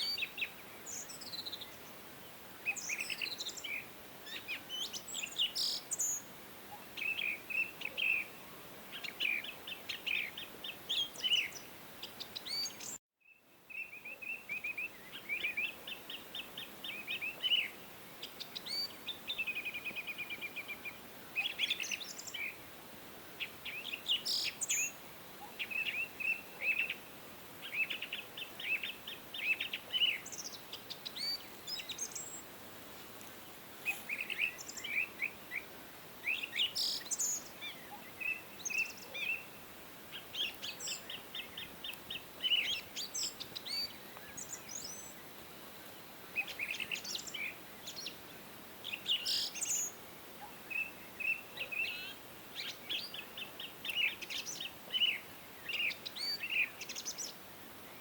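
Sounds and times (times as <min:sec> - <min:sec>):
songbirds singing: 0:00.0 - 0:22.8, 0:23.4 - 0:32.5, 0:33.2 - 0:58.0
faint steady hiss: 0:00.0 - 0:58.0.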